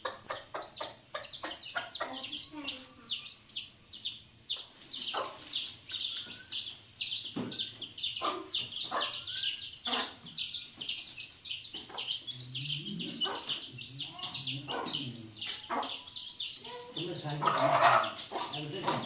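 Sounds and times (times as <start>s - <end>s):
chickens clucking: 0.0s - 19.0s
chicks peeping: 0.0s - 19.0s.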